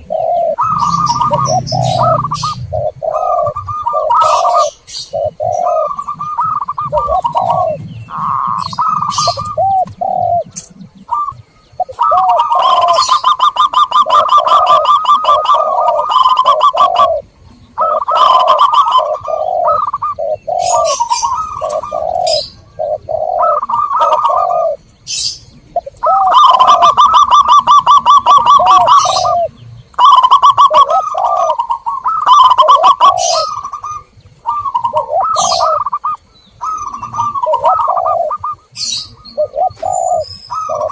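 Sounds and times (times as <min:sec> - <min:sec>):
fast high chirping: 0:00.0 - 0:17.2, 0:23.4 - 0:40.9
doves cooing: 0:00.0 - 0:40.9.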